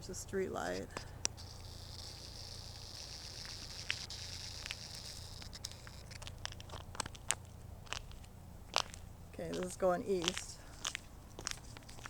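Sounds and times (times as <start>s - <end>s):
faint outdoor hum and hiss: 0.0s - 12.0s
footsteps crunching on salted sidewalk: 0.0s - 12.0s.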